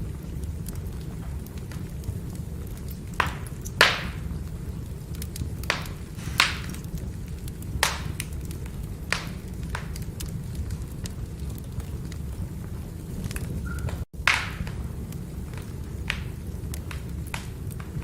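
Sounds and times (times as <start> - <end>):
firewood crackling and popping: 0.0 - 18.0
low rumble of fire: 0.0 - 18.0.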